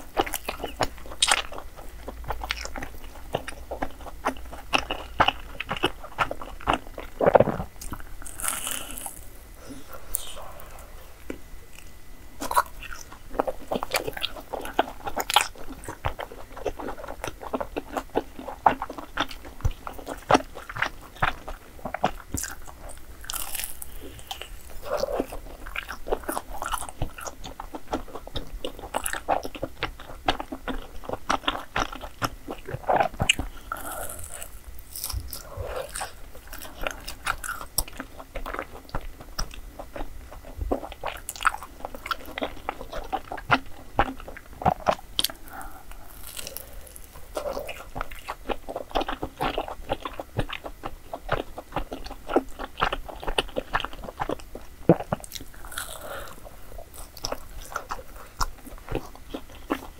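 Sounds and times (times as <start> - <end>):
person crunching and chewing: 0.0 - 59.9.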